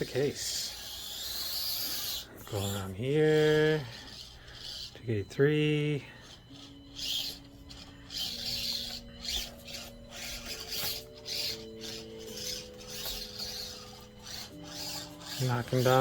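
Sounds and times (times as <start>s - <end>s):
toy crawler scraping over obstacles: 0.0s - 4.9s, 6.2s - 16.0s
soft background music: 0.0s - 16.0s.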